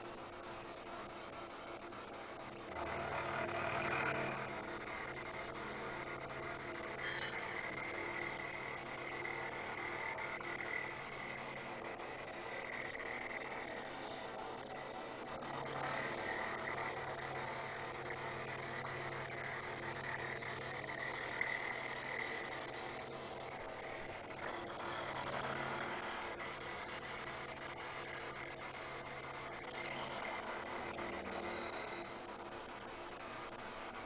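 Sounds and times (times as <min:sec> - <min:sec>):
milling machine spindle hum: 0:00.0 - 0:34.0.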